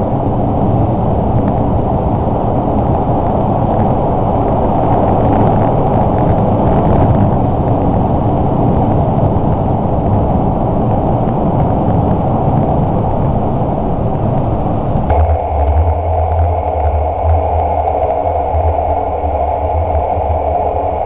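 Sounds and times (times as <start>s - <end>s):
train wheels rumbling in tunnel: 0.0s - 21.0s.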